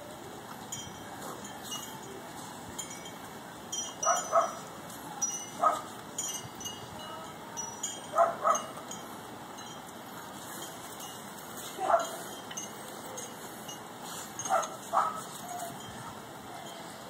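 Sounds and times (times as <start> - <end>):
faint high tinkling tones: 0.5 - 17.0.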